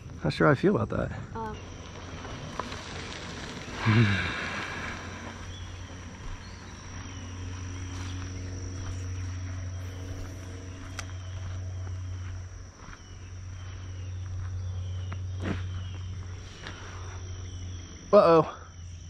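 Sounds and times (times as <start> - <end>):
insects droning trill: 0.0 - 19.0
low steady hum: 0.0 - 19.0.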